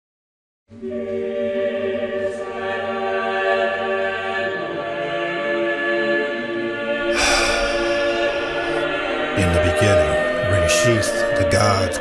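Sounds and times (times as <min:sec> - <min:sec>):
choir-like chant music: 0:00.7 - 0:12.0.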